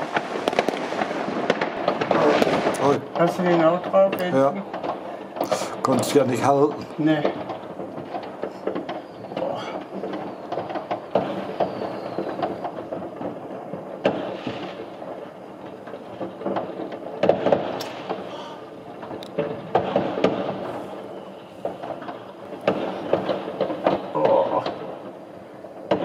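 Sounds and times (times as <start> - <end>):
distant fireworks rumble: 0.0 - 26.0
sharp firework bangs: 0.0 - 26.0.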